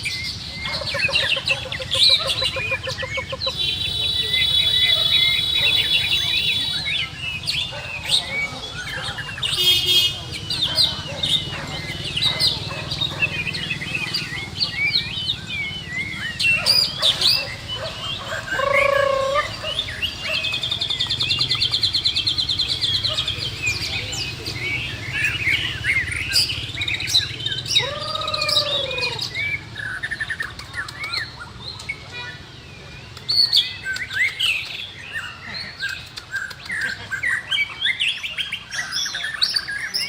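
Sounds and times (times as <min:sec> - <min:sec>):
birds whistling and chattering: 0:00.0 - 0:40.0.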